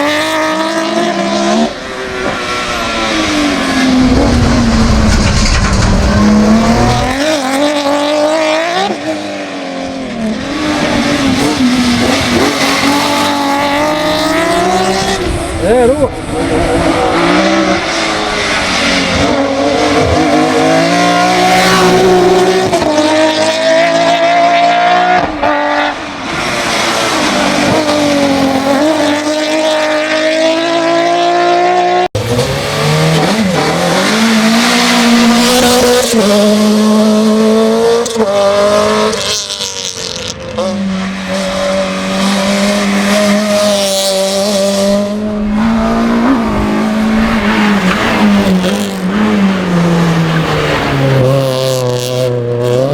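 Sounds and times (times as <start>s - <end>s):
race car engines at full throttle: 0.0s - 52.9s.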